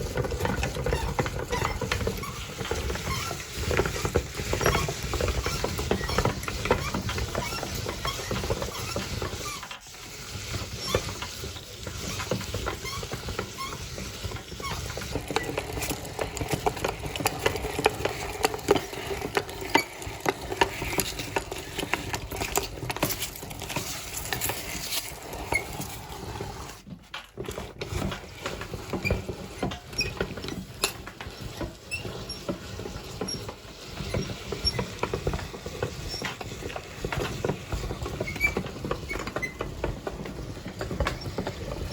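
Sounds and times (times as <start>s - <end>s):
grinder crunching ice: 0.0s - 41.9s.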